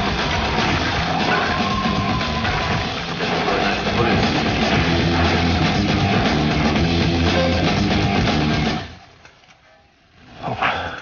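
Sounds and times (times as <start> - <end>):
distorted electric guitar: 0.0 - 9.0
rock drums: 0.0 - 9.0.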